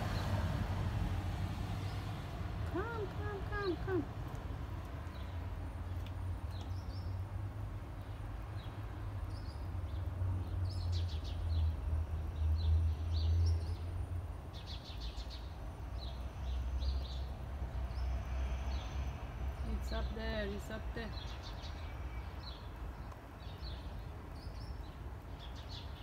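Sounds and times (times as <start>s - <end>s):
low outdoor rumble: 0.0s - 24.4s
small birds chirping: 1.8s - 7.3s, 8.0s - 26.0s.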